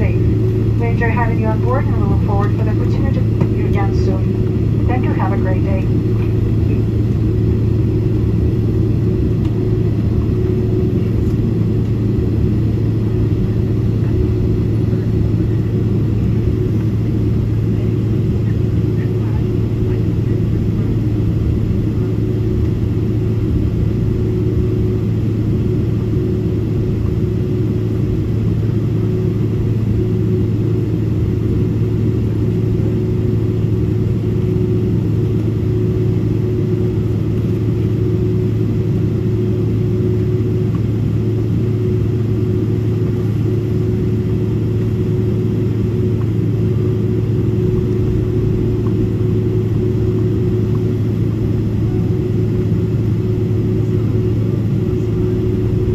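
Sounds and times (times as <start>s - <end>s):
low aircraft engine drone: 0.0s - 55.9s.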